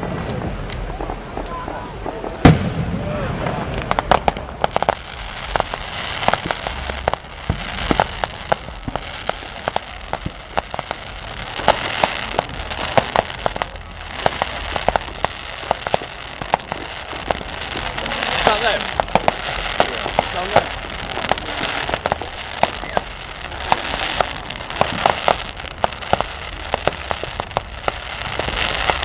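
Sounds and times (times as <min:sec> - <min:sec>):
fireworks crackling hiss: 0:00.0 - 0:29.0
fireworks pops and bangs: 0:00.0 - 0:29.0.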